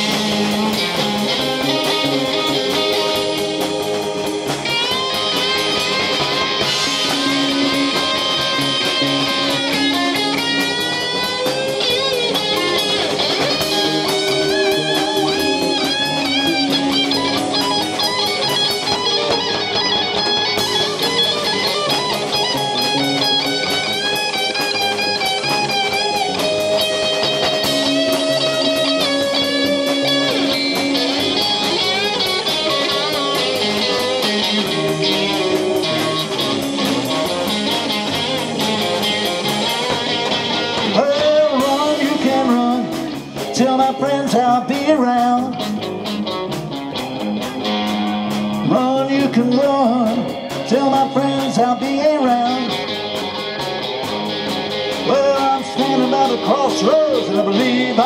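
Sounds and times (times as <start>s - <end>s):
bass: 0.0s - 58.0s
drums: 0.0s - 58.0s
electric guitar lead: 0.0s - 58.0s
keyboards: 0.0s - 58.0s.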